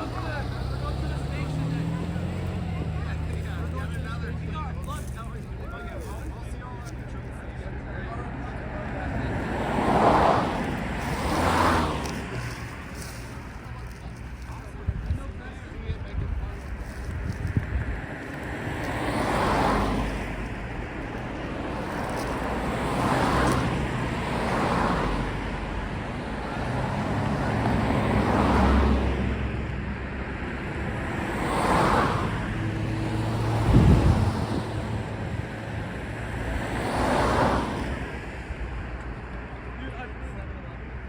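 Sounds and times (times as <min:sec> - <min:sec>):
cars passing by: 0:00.0 - 0:41.0
heavy vehicle low rumble: 0:00.0 - 0:41.0.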